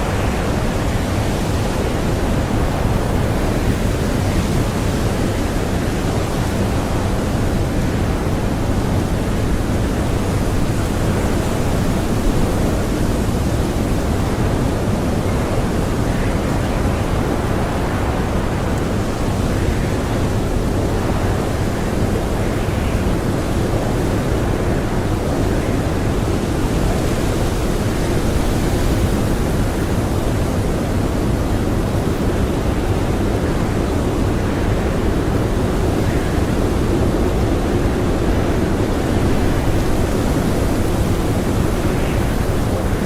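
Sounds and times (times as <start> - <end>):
strong blizzard wind: 0.0 - 43.0.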